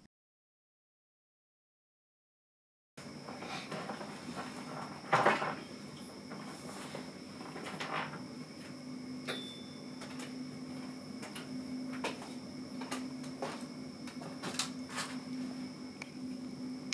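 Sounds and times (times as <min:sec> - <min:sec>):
steady low hum: 0:03.0 - 0:16.9.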